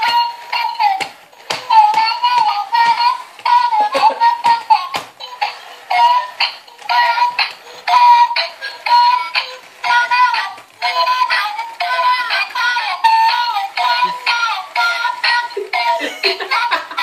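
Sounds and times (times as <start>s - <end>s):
toy singing through small speaker: 0.0s - 17.0s.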